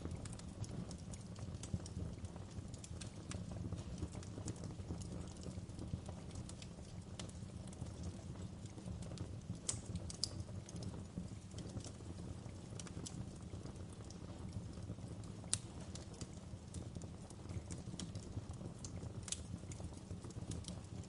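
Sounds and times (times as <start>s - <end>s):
fire pops and snaps: 0.0s - 21.0s
low rumble of burning fire: 0.0s - 21.0s.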